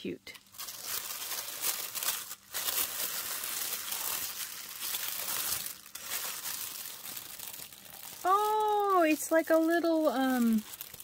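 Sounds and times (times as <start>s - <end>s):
tissue paper crinkling and rustling: 0.4s - 11.0s.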